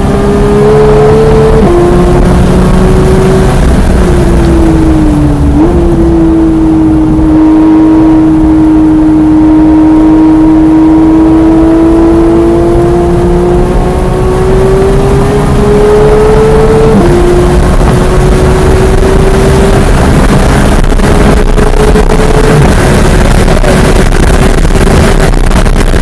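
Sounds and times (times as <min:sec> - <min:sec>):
car engine under load: 0:00.0 - 0:26.0.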